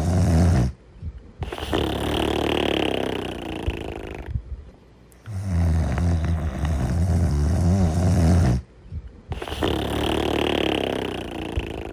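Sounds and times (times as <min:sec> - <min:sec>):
loud low snoring: 0:00.0 - 0:00.8, 0:01.4 - 0:04.4, 0:05.2 - 0:08.7, 0:09.3 - 0:11.9.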